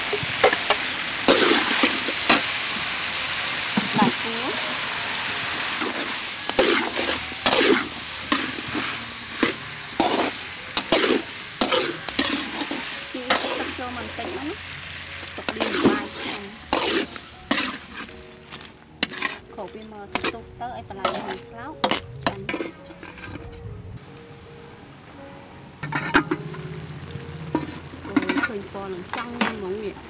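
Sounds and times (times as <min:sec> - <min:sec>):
food sizzling in a wok: 0:00.0 - 0:22.7, 0:25.2 - 0:30.0
metal spatula scraping wok: 0:00.0 - 0:23.7, 0:25.8 - 0:26.7, 0:27.4 - 0:29.9.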